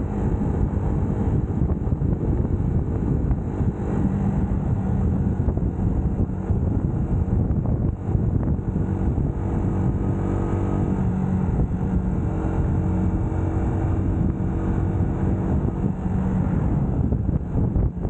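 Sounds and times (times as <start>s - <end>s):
motorcycle engine running: 0.0s - 18.0s
road noise: 0.0s - 18.0s.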